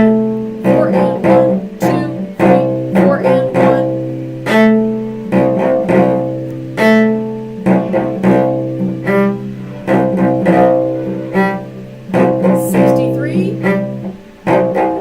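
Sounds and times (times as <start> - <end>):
cello playing slowly: 0.0 - 15.0.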